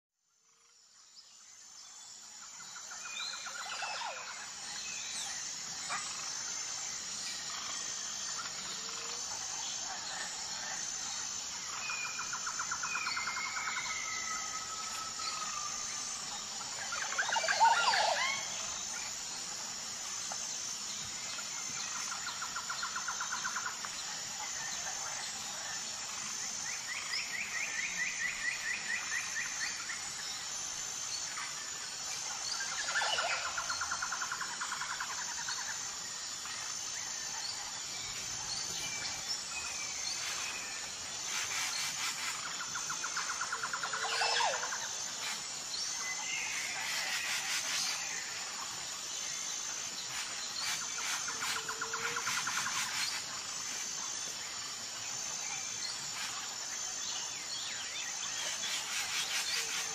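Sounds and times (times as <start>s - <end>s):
steady high-pitched drone: 2.4s - 59.9s.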